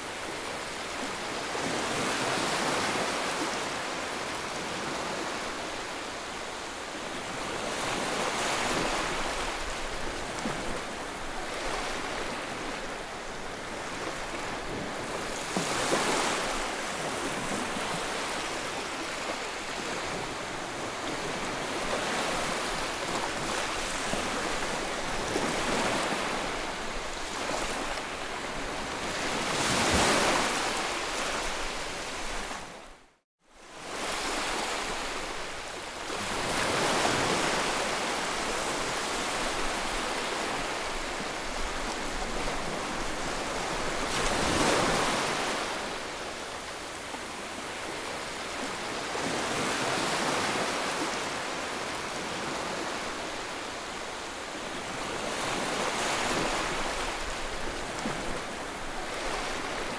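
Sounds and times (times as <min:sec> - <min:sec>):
ocean surf waves washing in: 0:00.0 - 0:59.9.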